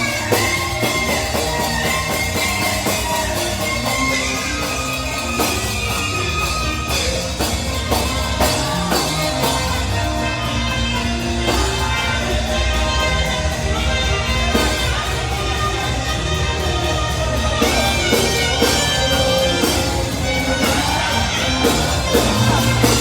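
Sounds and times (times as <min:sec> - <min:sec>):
drum strokes: 0:00.0 - 0:23.0
live band playing worship music: 0:00.0 - 0:23.0.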